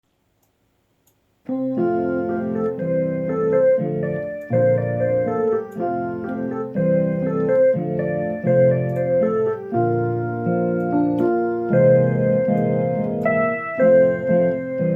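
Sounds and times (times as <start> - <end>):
keyboard playing piano chords: 1.4 - 14.9.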